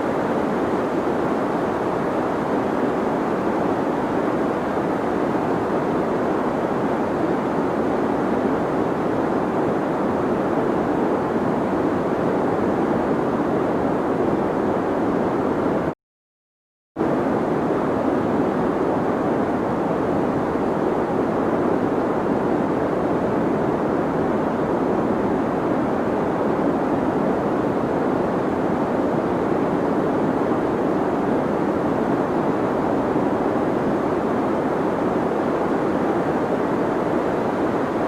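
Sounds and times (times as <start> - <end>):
deep white noise hiss: 0.0 - 15.9, 17.0 - 38.0.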